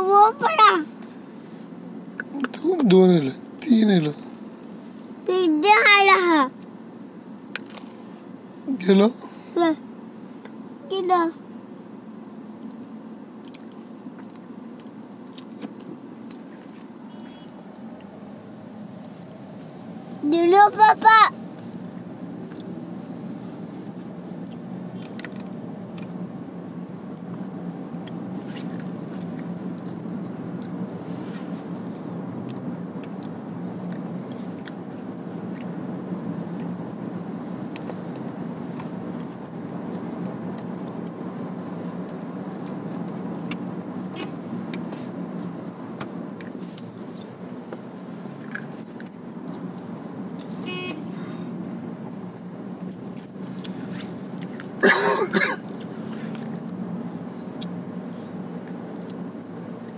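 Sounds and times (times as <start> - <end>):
car engine and tyres hum: 0.0 - 59.9.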